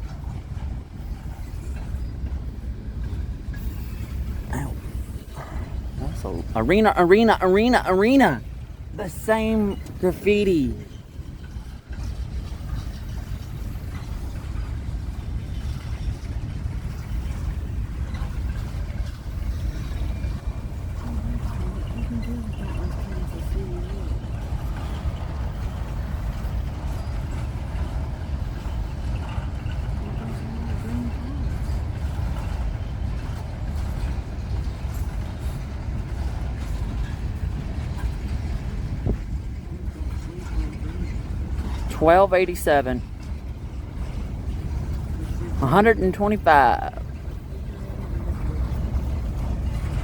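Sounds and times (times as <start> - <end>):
freight train cars rolling: 0.0 - 50.0.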